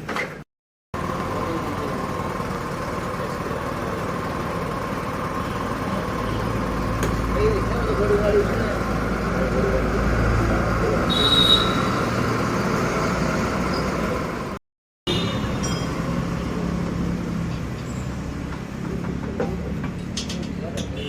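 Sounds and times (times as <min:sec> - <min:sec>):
vehicle and street noise: 0:00.0 - 0:21.0.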